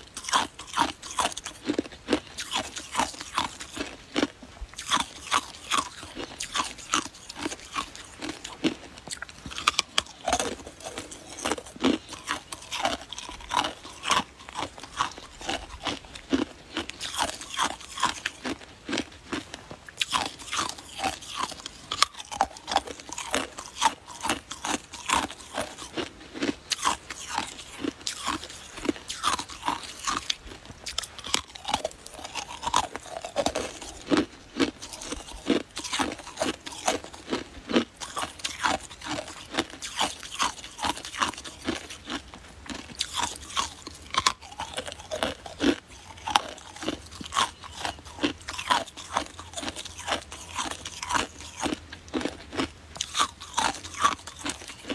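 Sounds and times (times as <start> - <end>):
person crunching ice: 0.0 - 54.9.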